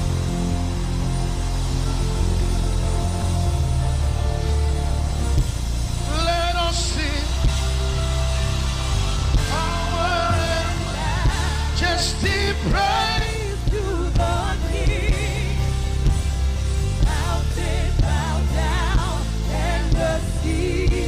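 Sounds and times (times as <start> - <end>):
sustained low bass: 0.0 - 21.0.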